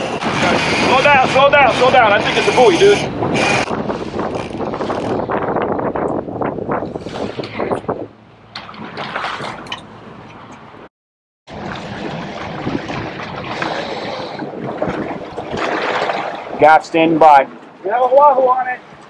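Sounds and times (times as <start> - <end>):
water splashing against a boat: 0.0 - 10.9, 11.5 - 19.0
wind buffeting microphone: 0.0 - 10.9, 11.5 - 19.0.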